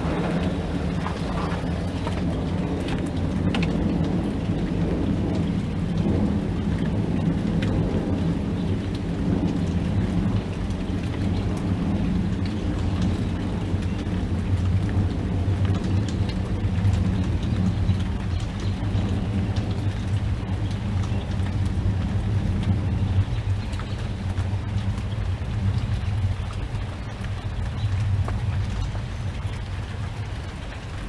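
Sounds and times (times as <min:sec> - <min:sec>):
continuous low rumble: 0:00.0 - 0:31.0
steady rain: 0:00.0 - 0:31.0.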